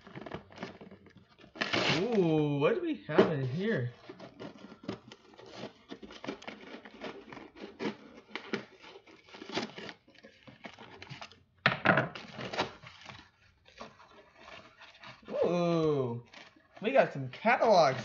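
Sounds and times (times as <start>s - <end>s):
cardboard and paper ripping: 0.0s - 11.4s, 12.1s - 18.0s.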